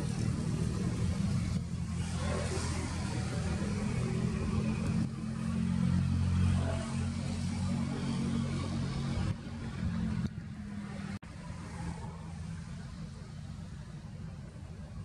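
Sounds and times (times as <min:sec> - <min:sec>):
low engine rumble: 0:00.0 - 0:15.0
noise hiss: 0:00.0 - 0:15.0.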